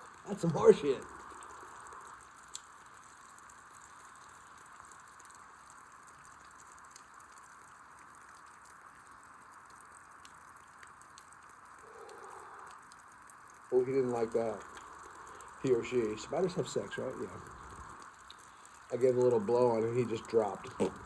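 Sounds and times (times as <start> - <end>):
raindrop ticks: 0.0 - 21.0
steady rain: 0.0 - 21.0.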